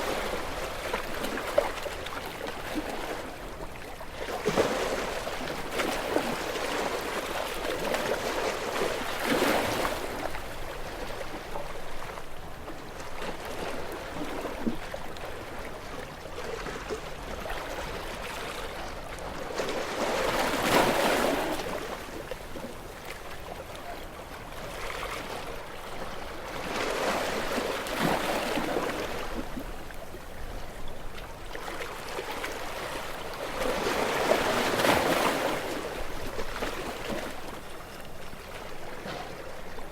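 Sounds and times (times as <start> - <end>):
sea waves breaking against rocks: 0.0 - 14.9, 16.5 - 39.9.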